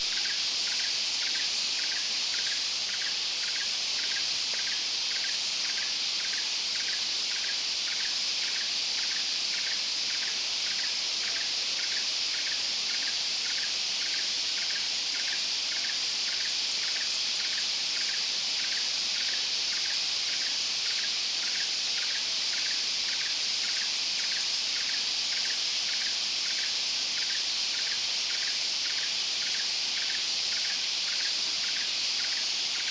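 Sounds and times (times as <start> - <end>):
high-pitched insect chorus: 0.0 - 32.9.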